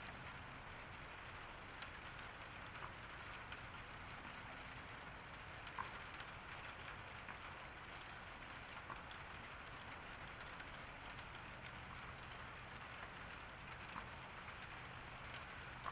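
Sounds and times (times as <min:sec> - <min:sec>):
raindrops ticking on surfaces: 0:00.0 - 0:15.9
steady rain hiss: 0:00.0 - 0:15.9.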